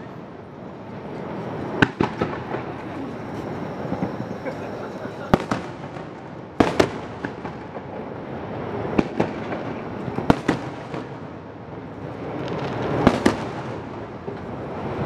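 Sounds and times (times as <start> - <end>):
continuous rumble: 0.0 - 15.0
fireworks bursting: 0.0 - 15.0.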